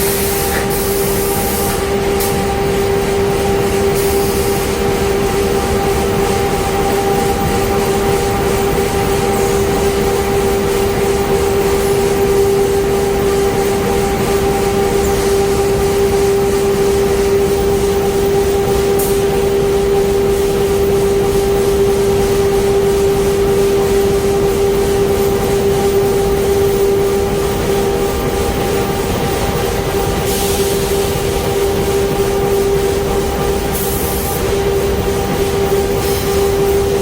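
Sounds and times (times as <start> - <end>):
machinery drone and hum: 0.0 - 37.0.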